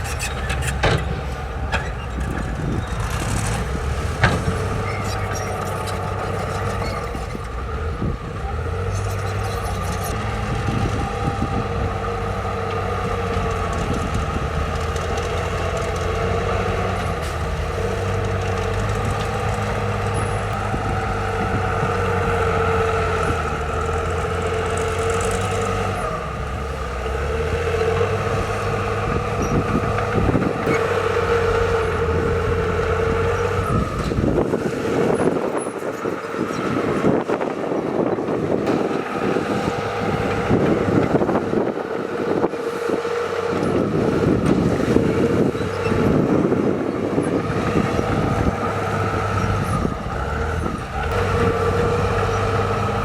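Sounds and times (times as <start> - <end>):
diesel machinery engine drone: 0.0 - 53.0.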